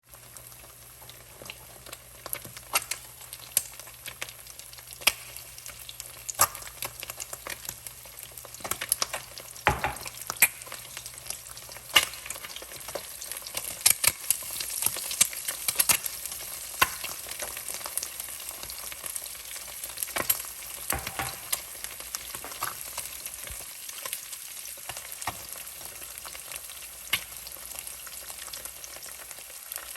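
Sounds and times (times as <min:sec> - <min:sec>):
eggs sizzling with sharp pops: 0:00.1 - 0:29.9.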